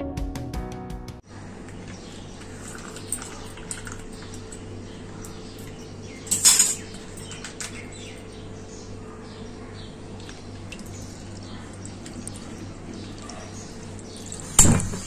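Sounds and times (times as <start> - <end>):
steady low hum: 1.3 - 15.0.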